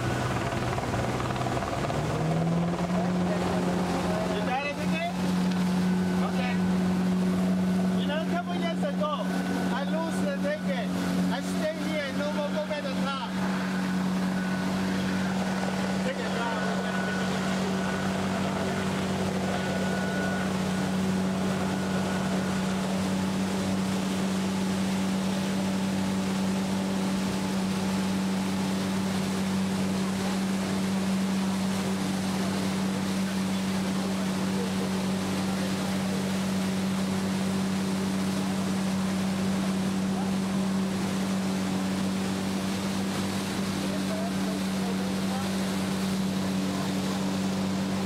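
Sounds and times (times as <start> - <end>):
boat motor humming: 0.0 - 48.0
water noise: 0.0 - 48.0.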